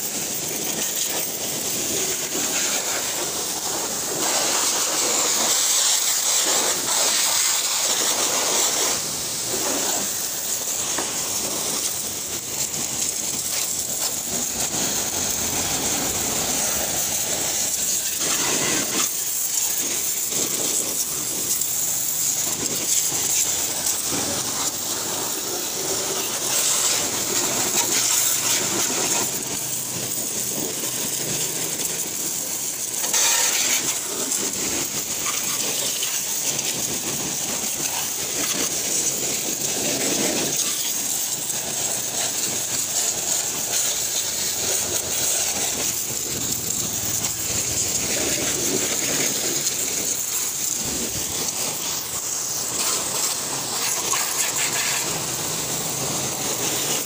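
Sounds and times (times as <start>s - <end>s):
pressure washer spraying: 0.0s - 57.0s.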